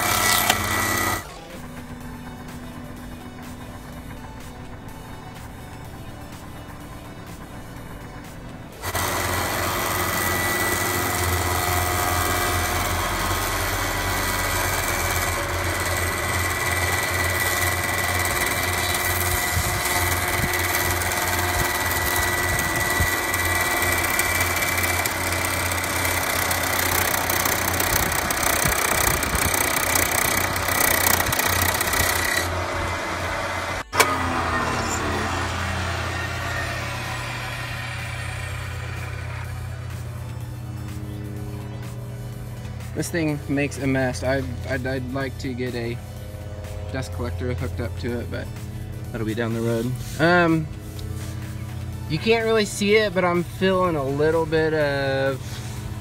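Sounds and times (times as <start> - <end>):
planer machining with high whine: 0.0 - 5.9, 8.8 - 56.0.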